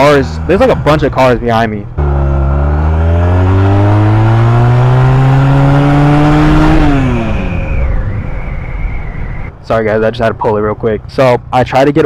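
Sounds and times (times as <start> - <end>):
motorcycle engine accelerating: 0.0 - 9.9.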